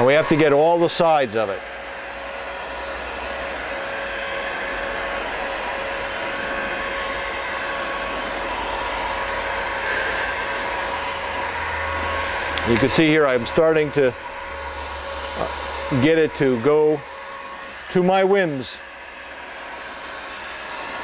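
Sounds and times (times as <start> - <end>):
heat gun blowing air: 0.0 - 21.0.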